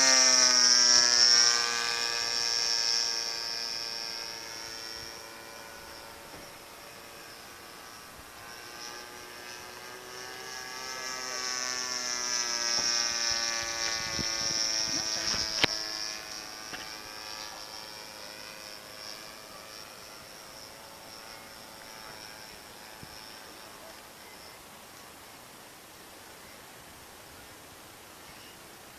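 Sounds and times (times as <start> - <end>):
model airplane engine passing overhead: 0.0 - 28.9.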